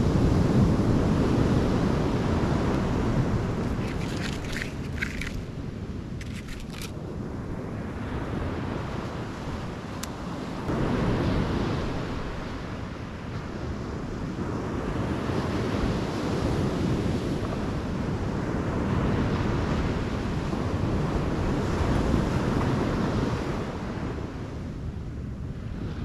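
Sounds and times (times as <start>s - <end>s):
ocean surf on sandy beach: 0.0s - 26.0s
wind buffeting microphone: 0.0s - 26.0s.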